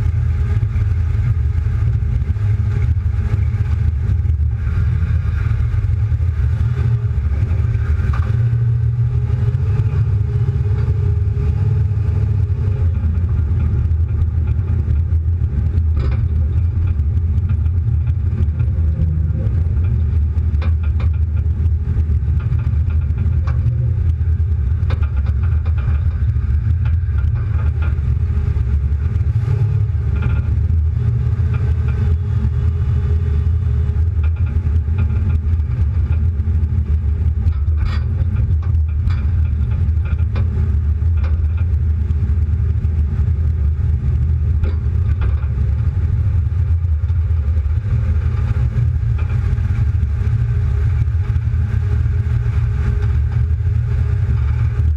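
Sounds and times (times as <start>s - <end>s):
car engine rumbling: 0.0s - 54.9s.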